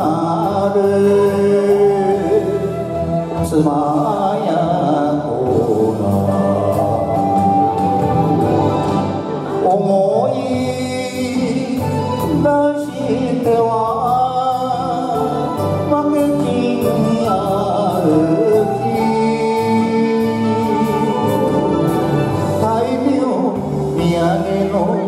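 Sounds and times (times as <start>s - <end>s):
man singing into a microphone: 0.0s - 8.1s, 9.5s - 25.0s
recorded backing track: 0.0s - 25.0s.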